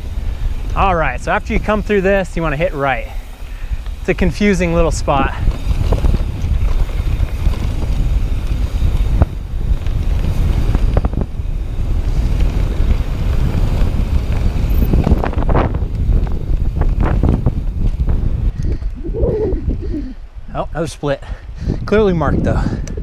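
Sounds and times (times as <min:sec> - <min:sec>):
bike rattling on trail: 0:00.0 - 0:23.0
wind rumbling on microphone: 0:00.0 - 0:23.0.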